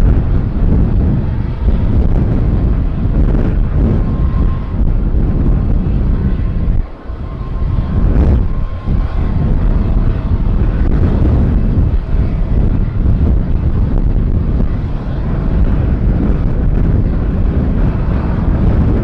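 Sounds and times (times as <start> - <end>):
faint engine whine: 0.0 - 19.0
jet engines rumbling: 0.0 - 19.0
wind buffeting microphone: 0.0 - 19.0.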